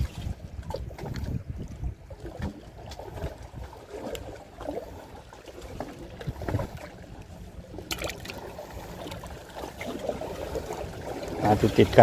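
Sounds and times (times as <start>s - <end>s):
sea water lapping: 0.0s - 12.0s.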